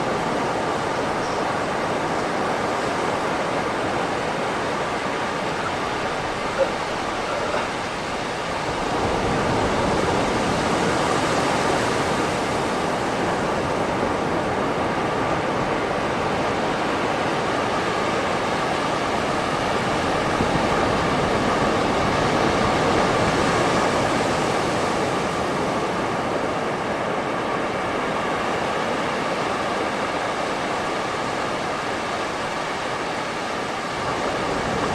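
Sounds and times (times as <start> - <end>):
waves washing on a beach: 0.0 - 34.9.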